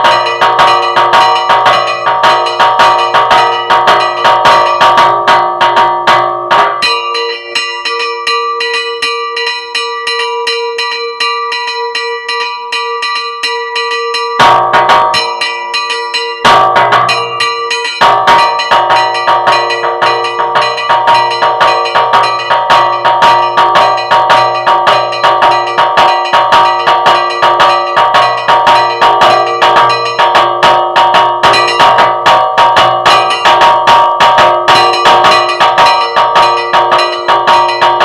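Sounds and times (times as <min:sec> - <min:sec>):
church bells ringing: 0:00.0 - 0:38.0.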